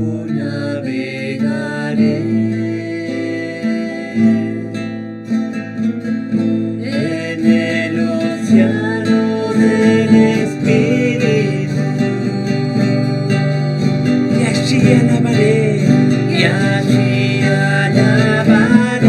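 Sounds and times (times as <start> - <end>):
person singing: 0.0 - 5.0, 6.8 - 19.0
acoustic guitars strummed and picked: 0.0 - 19.0.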